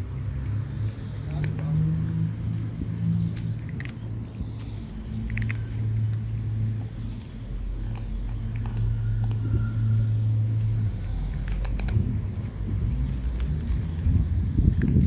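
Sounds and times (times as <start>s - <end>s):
cat crunching dry kibble: 1.3s - 9.5s, 10.4s - 15.0s
steady low hum: 2.0s - 15.0s.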